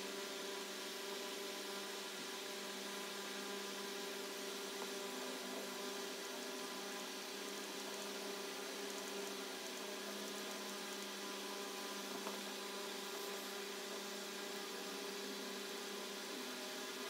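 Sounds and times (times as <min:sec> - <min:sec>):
room noise hum and hiss: 0:00.0 - 0:17.0.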